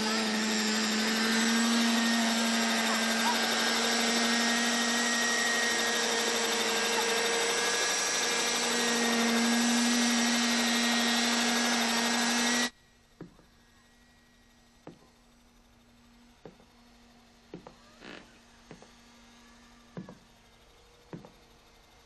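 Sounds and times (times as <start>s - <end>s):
model helicopter engine and rotor: 0.0s - 22.0s.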